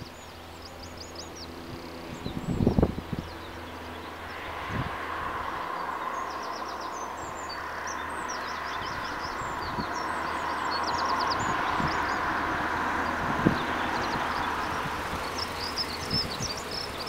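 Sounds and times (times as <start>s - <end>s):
birds chirping: 0.0s - 17.0s
freight train approaching: 0.4s - 17.0s.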